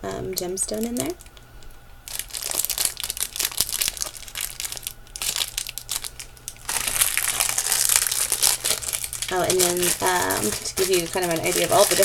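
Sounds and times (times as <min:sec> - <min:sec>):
plastic packaging crinkling: 0:00.7 - 0:12.0.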